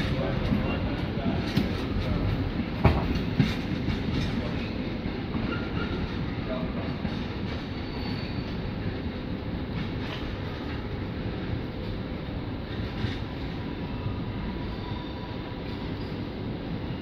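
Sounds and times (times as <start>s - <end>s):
steam train rolling along track: 0.0s - 17.0s.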